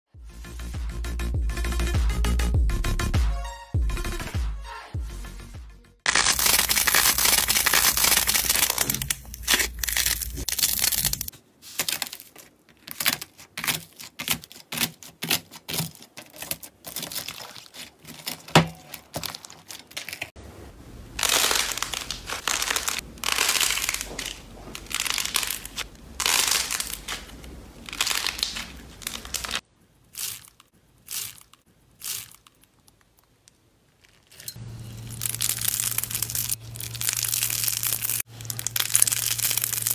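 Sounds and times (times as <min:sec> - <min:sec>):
slime crackling and squishing: 0:06.1 - 0:20.4, 0:21.2 - 0:34.4, 0:35.0 - 0:39.9.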